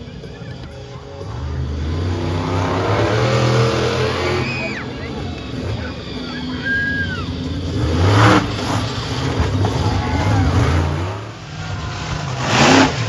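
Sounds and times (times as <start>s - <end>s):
truck engine revving hard: 1.0s - 13.0s.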